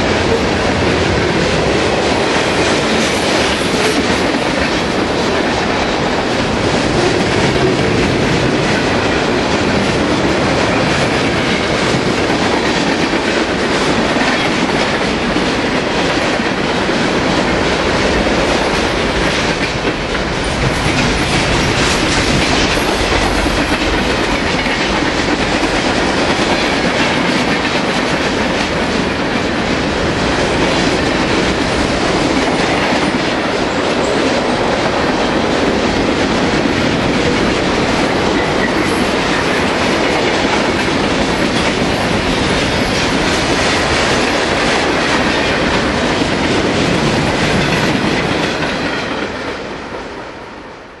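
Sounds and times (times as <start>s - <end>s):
wheels clacking over rail joints: 0.0s - 49.6s
freight train rolling past: 0.0s - 51.0s.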